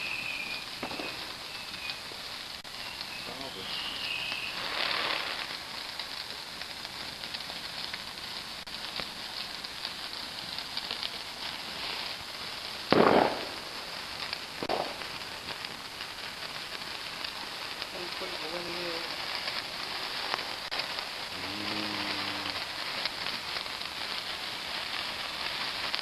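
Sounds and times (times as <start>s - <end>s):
fireworks fizzing and crackling: 0.0s - 26.0s
loud firework burst: 0.0s - 26.0s.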